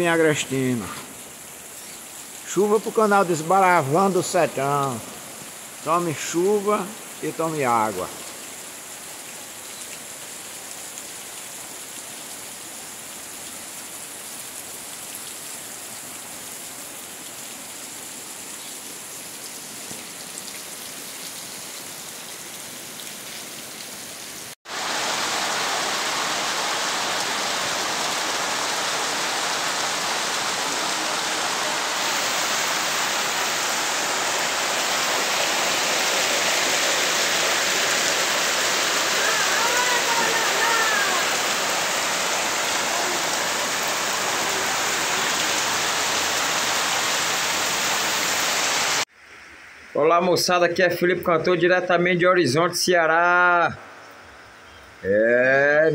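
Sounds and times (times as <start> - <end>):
heavy downpour: 0.0 - 49.1
rain falling on trees and grass: 0.0 - 55.9.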